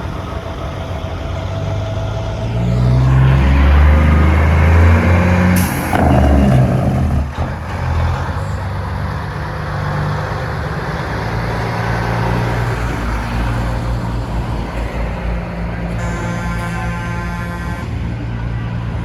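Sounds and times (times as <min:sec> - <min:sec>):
diesel truck engines rumbling: 0:00.0 - 0:19.0.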